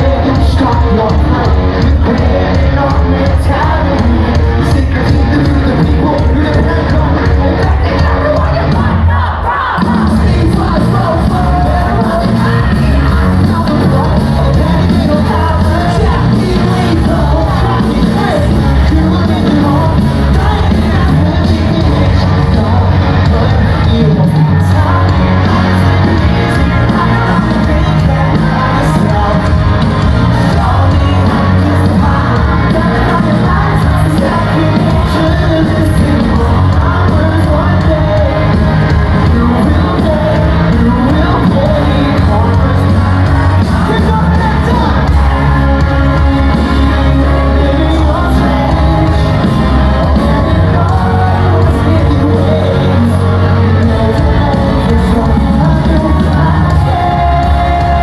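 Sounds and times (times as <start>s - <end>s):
crowd shouting: 0.0s - 58.0s
live rock band playing: 0.0s - 58.0s
singer's vocal: 0.0s - 58.0s.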